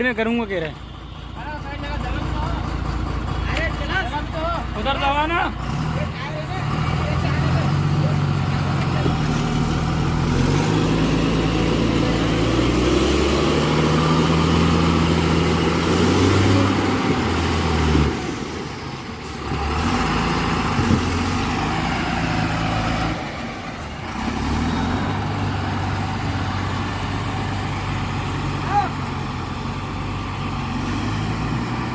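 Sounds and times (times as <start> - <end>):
heavy diesel engines working: 0.0 - 31.9.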